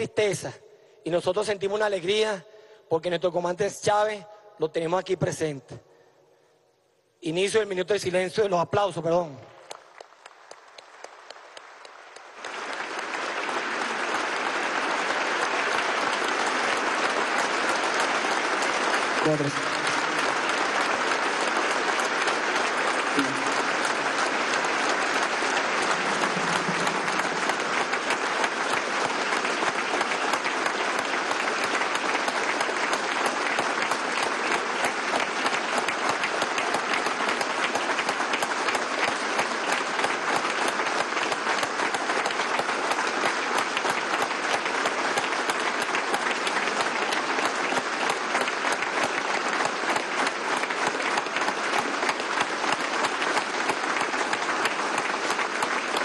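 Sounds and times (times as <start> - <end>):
crowd applauding: 9.4 - 56.0.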